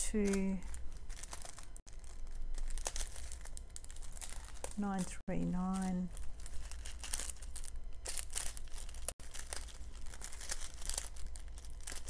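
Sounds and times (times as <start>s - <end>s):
small plastic bags crinkling: 0.0s - 12.0s.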